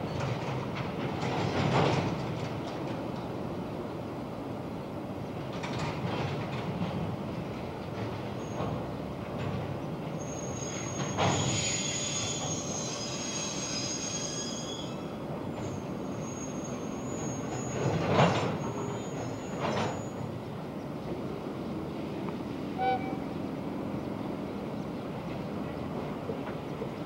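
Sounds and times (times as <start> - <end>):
train wheels squealing on rails: 0.0 - 3.1, 5.1 - 20.8, 21.8 - 27.0.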